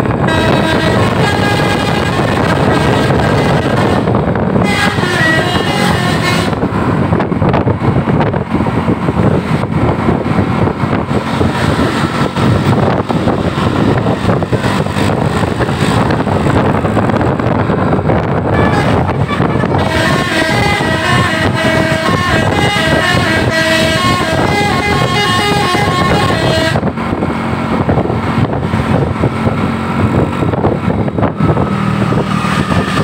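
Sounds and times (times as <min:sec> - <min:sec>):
multi-tone bus air horns: 0:00.0 - 0:07.6, 0:09.1 - 0:33.0
vehicle noise: 0:00.0 - 0:33.0.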